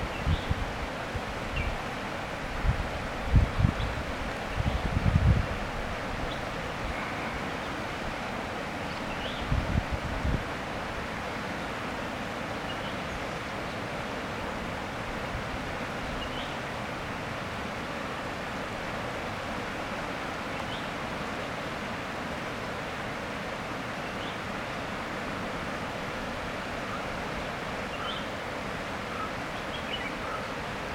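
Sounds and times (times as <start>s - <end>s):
flowing water rushing: 0.0s - 30.9s.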